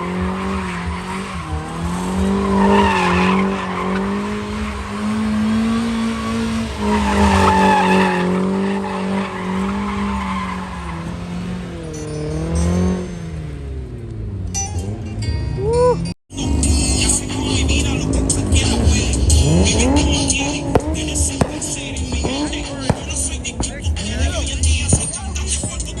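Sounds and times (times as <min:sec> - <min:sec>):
tyres squealing: 0:00.0 - 0:13.5, 0:15.7 - 0:26.0
car engine at high revs: 0:00.0 - 0:26.0.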